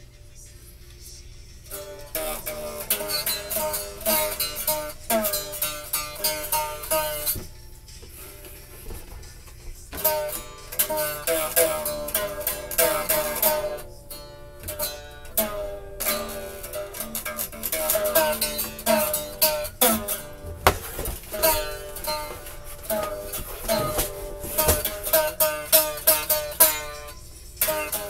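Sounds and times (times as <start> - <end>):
acoustic guitar plucked notes: 1.6 - 28.0.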